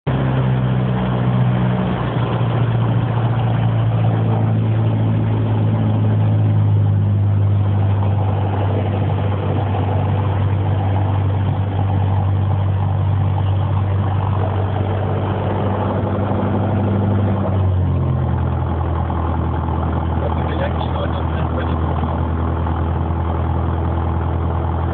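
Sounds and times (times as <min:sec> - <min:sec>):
light aircraft engine droning: 0:00.1 - 0:24.9.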